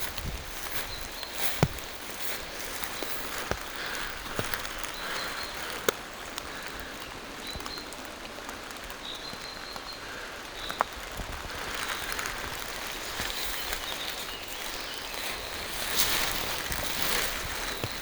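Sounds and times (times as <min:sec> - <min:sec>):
distant bird calls: 0:00.0 - 0:18.0
rain falling through trees: 0:00.0 - 0:18.0.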